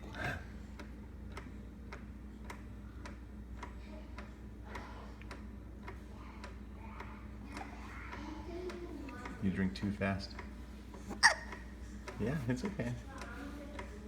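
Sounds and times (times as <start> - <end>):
soft regular clicking: 0.7 - 14.0.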